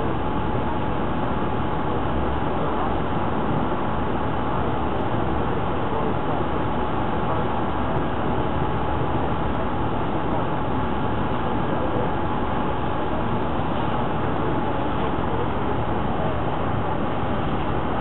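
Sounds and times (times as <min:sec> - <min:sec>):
boat engine droning: 0:00.0 - 0:18.0
faint steady whine: 0:00.0 - 0:18.0.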